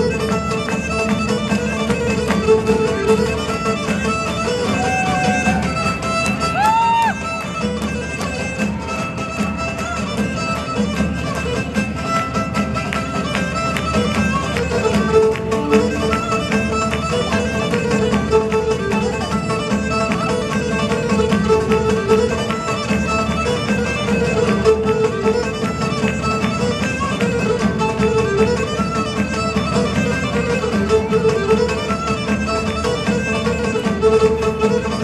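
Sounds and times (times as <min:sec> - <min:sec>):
bowed lyra melody: 0:00.0 - 0:35.0
plucked lute: 0:00.0 - 0:35.0.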